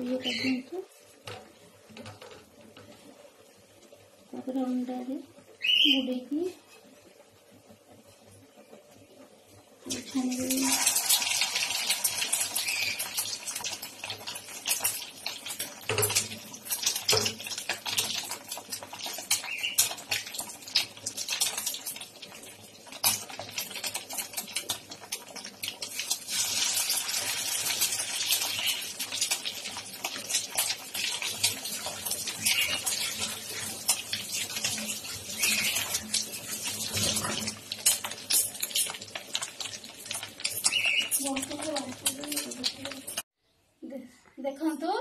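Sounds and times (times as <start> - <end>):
deep-frying crackling sizzle: 0.0 - 43.4.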